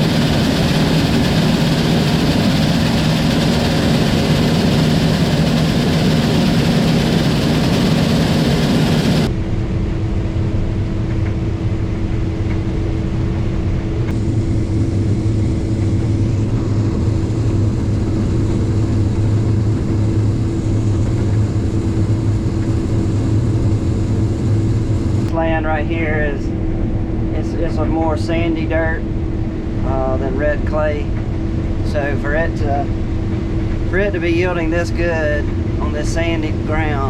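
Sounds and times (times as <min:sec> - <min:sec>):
combine harvester engine drone: 0:00.0 - 0:37.0
steady hum: 0:00.0 - 0:37.0.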